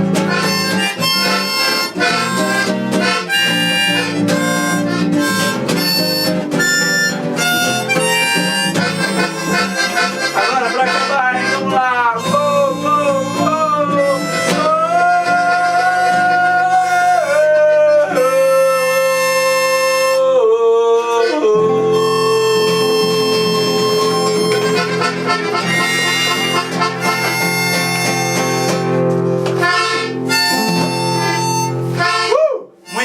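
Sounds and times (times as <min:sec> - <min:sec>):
held melody notes: 0:00.0 - 0:20.3, 0:21.4 - 0:33.0.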